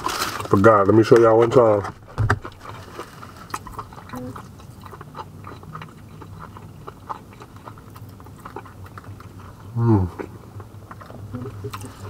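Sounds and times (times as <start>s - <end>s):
person chewing: 1.9s - 12.0s.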